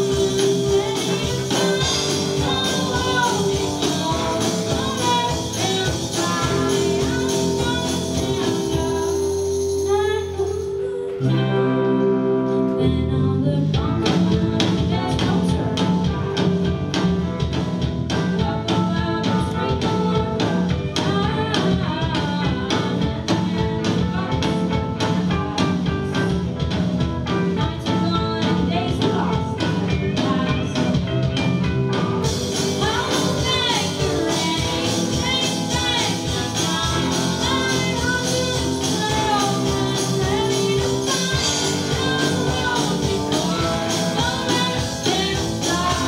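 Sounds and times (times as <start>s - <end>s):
person singing: 0.0s - 17.3s, 18.1s - 46.0s
live rock band playing: 0.0s - 46.0s.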